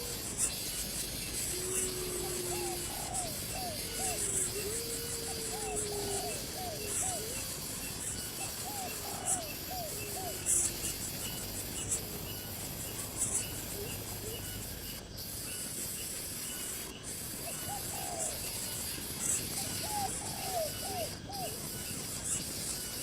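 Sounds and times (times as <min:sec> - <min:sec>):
insects hissing: 0:00.0 - 0:23.0.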